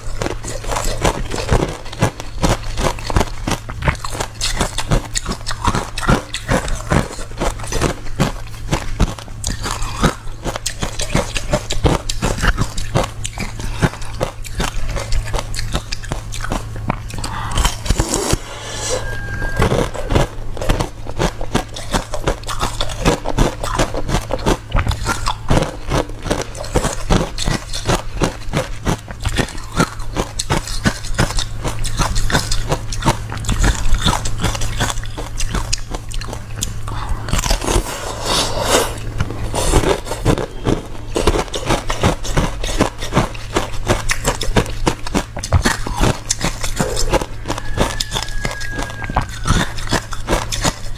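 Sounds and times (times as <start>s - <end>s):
person crunching ice cubes: 0.0s - 50.9s
steady low hum: 0.0s - 50.9s.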